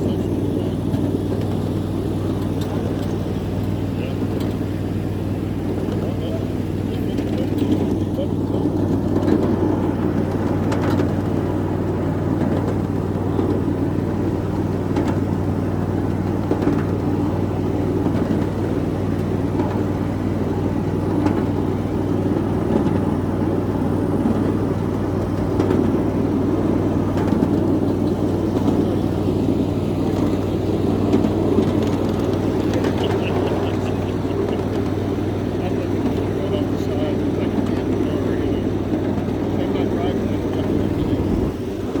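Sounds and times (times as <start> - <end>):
miniature train rumbling on track: 0.0 - 42.0.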